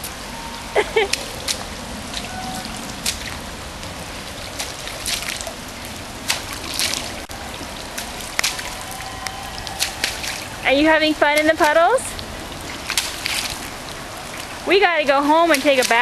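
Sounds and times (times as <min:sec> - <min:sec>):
pouring rain: 0:00.0 - 0:16.0
water drops splashing: 0:00.0 - 0:16.0.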